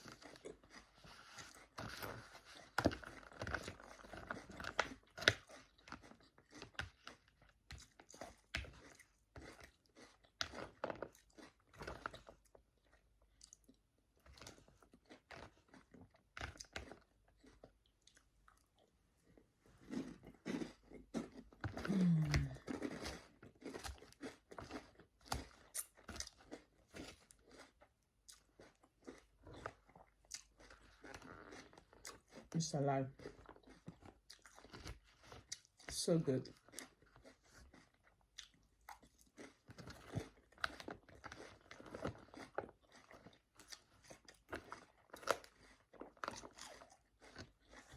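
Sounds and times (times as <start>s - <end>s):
chewing crunchy salad: 0.0s - 47.9s.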